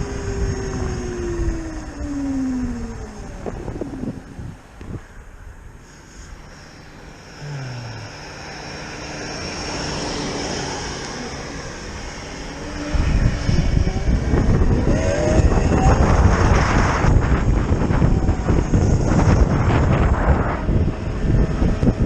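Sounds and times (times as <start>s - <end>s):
electric motor whine: 0.0s - 4.8s, 6.2s - 22.0s
wind buffeting microphone: 0.0s - 5.8s, 8.8s - 22.0s.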